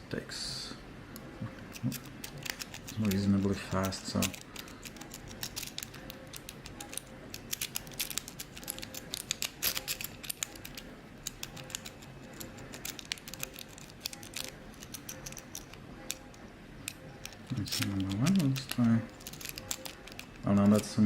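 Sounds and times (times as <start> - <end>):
lock pick clicking on pins: 1.7 - 20.8.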